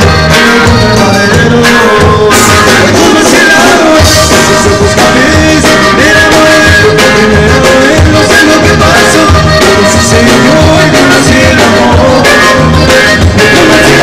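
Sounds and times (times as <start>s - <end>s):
bajo sexto guitar: 0.0s - 14.0s
button accordion: 0.0s - 14.0s
drums playing a steady beat: 0.0s - 14.0s
man singing: 0.0s - 14.0s.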